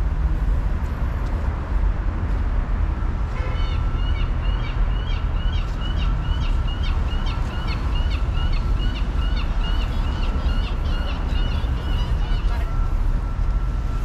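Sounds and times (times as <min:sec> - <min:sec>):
low city traffic rumble: 0:00.0 - 0:14.0.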